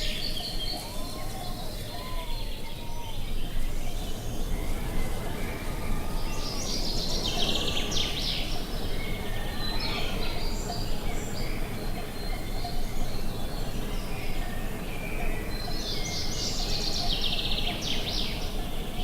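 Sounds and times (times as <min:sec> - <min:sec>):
low rumble of wind: 0:00.0 - 0:19.0
songbirds singing: 0:00.0 - 0:19.0.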